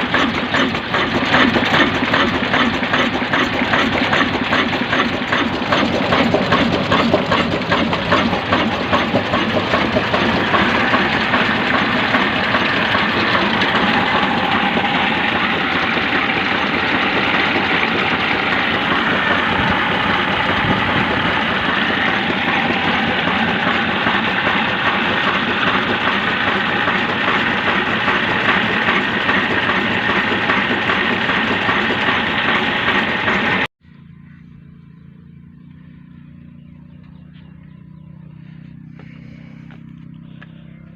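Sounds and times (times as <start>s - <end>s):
diesel engine knocking: 0.0s - 33.7s, 35.6s - 40.9s.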